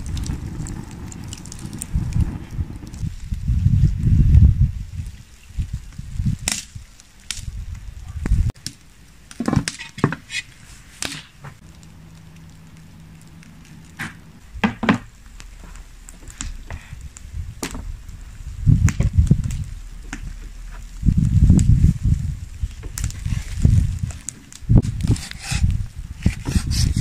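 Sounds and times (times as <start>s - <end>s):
low rumble: 0.0s - 6.4s, 11.6s - 27.0s.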